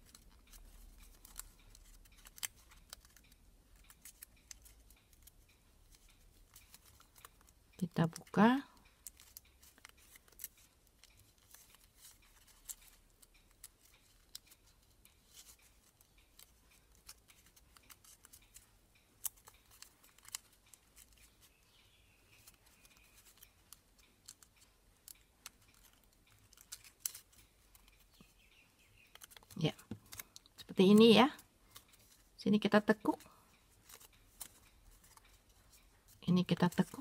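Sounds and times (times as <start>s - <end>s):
paper being folded and creased: 0.0s - 8.4s, 9.0s - 21.6s, 22.3s - 28.3s, 29.1s - 30.7s, 33.7s - 37.0s.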